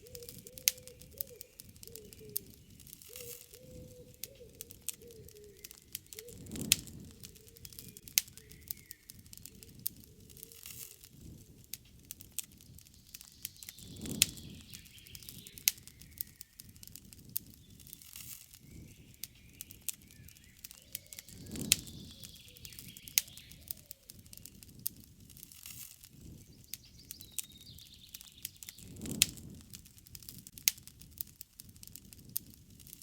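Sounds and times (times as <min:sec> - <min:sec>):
faint birds chirping: 0:00.0 - 0:24.8, 0:25.9 - 0:29.6
campfire crackling and popping: 0:00.0 - 0:33.0
rush of flame: 0:00.1 - 0:33.0.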